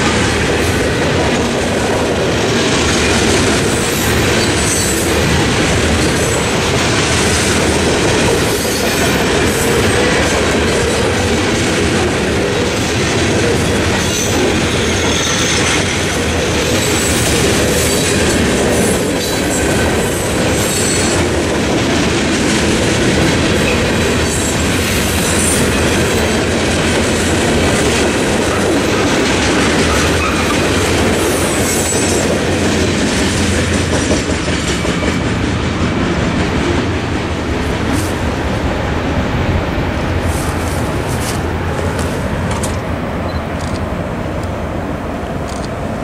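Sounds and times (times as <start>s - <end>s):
train wheels clattering on rails: 0.0s - 44.7s.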